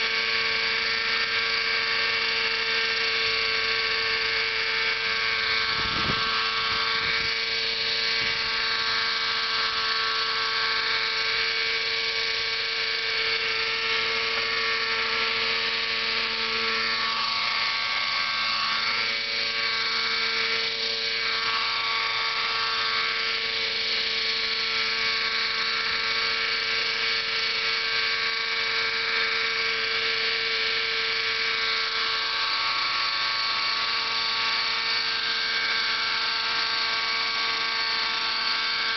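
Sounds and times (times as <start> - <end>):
model helicopter engine and rotors: 0.0 - 38.9.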